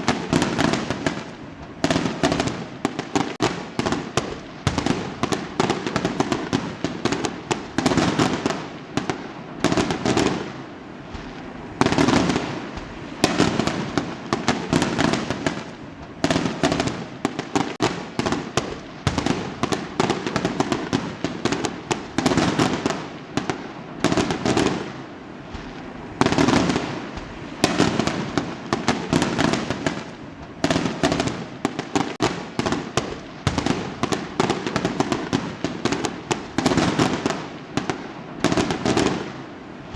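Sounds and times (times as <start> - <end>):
fireworks booming bursts: 0.0 - 39.9
fireworks crackling and popping: 0.0 - 39.9.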